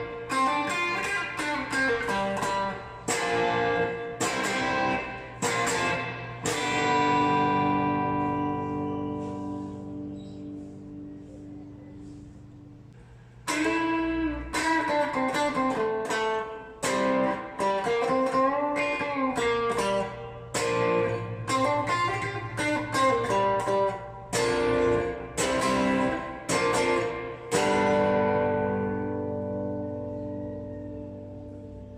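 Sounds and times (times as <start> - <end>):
electric guitar notes and chords: 0.0 - 31.9.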